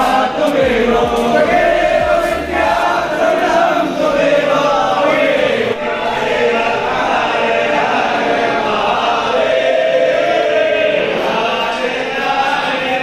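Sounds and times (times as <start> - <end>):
group chanting a hymn: 0.0 - 13.0.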